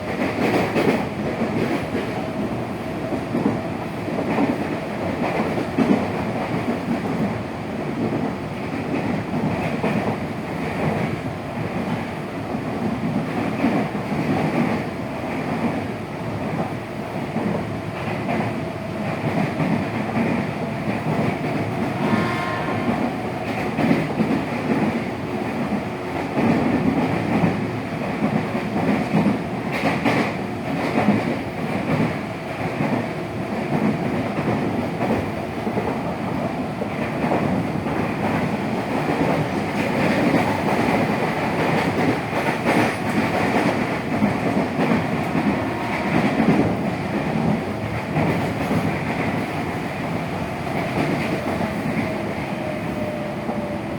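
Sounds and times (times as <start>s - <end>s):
wheels rumbling on rail: 0.0s - 53.9s.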